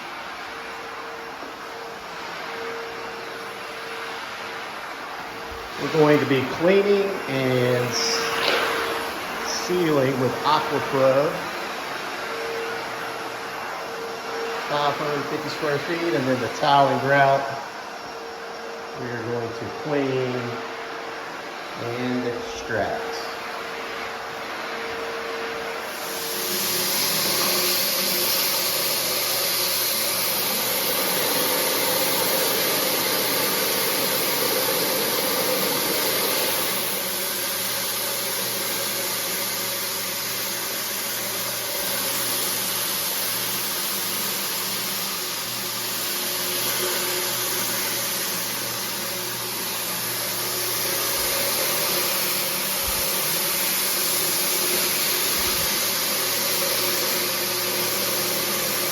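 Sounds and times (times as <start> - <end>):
floor-cleaning machine running: 0.0 - 58.9.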